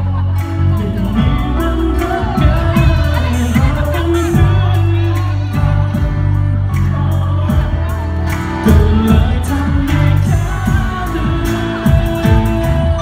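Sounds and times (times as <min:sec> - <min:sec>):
live pop band playing: 0:00.0 - 0:13.0
people singing: 0:00.0 - 0:13.0.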